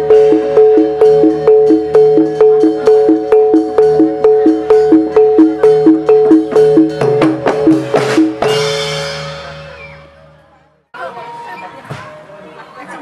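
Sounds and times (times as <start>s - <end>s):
cymbal crash: 0.0s - 10.6s
pitched percussion alternating two notes: 0.0s - 10.6s.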